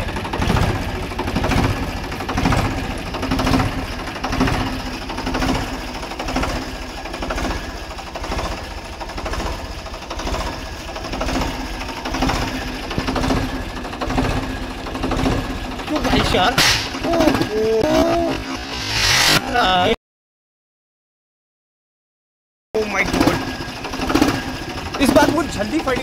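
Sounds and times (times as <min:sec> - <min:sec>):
diesel tractor engine idling: 0:00.0 - 0:18.8, 0:22.8 - 0:26.0.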